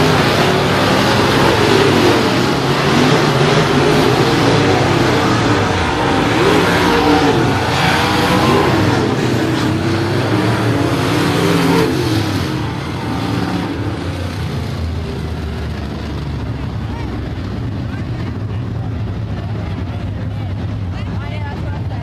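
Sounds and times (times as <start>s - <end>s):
race car engines racing: 0.0s - 22.0s.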